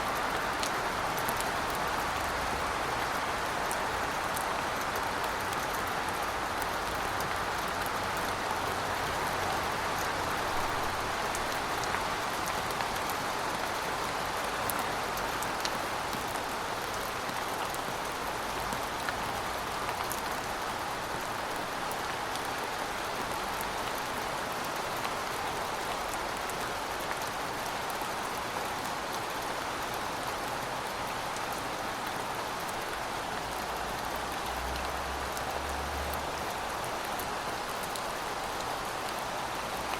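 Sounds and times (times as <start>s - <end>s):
steady rainfall patter: 0.0s - 39.9s.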